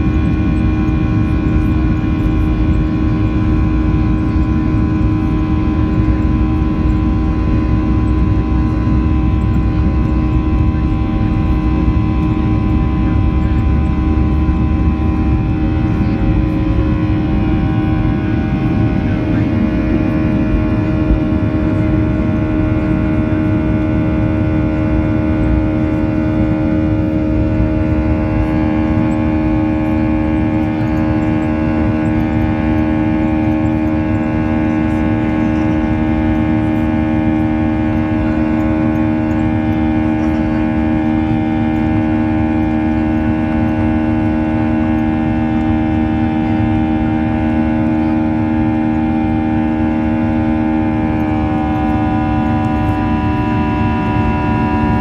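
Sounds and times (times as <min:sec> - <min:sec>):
jet engine drone from cabin: 0:00.0 - 0:55.0.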